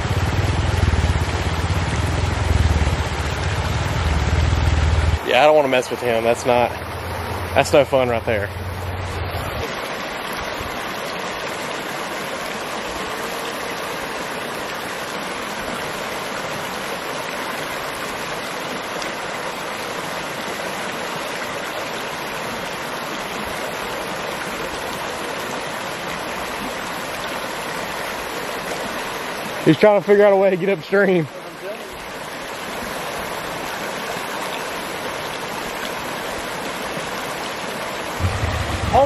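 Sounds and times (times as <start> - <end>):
creek water over rocks: 0.0 - 39.0.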